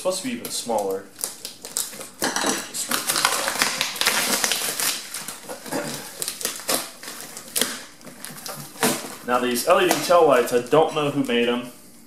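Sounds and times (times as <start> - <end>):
plastic packaging crinkling: 0.2 - 11.5.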